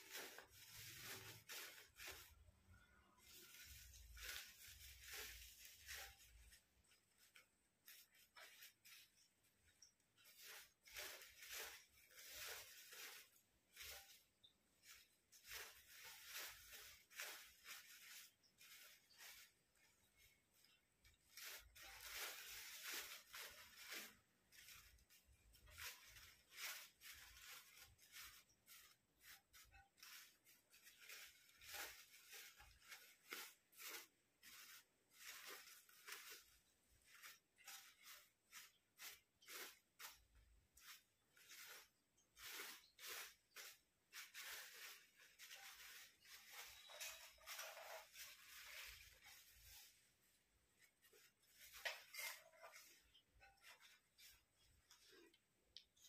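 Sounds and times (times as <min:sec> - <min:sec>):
paper rustling and crinkling: 0:00.0 - 0:56.0.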